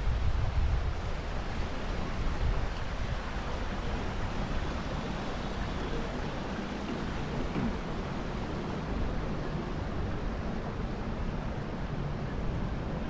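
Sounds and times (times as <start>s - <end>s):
wind rumbling on microphone: 0.0s - 13.0s
stream flowing over rocks: 0.3s - 11.2s.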